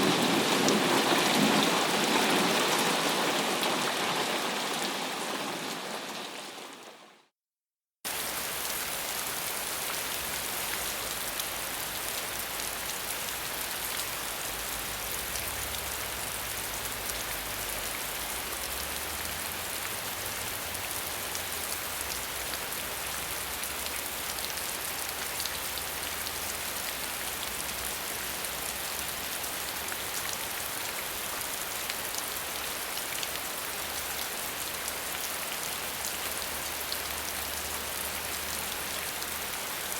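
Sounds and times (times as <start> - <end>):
steady rain pattering: 0.0 - 7.3, 8.1 - 39.9.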